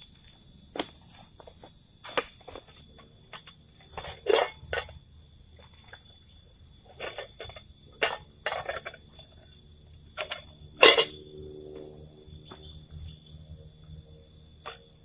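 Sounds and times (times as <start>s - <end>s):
high-pitched insect drone: 0.0s - 15.0s
metallic ringing tone: 2.0s - 15.0s.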